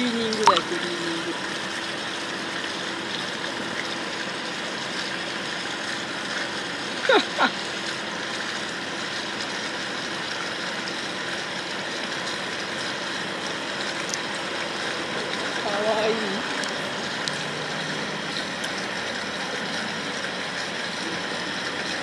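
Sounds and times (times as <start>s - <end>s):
water rushing in fish tank: 0.0s - 22.0s.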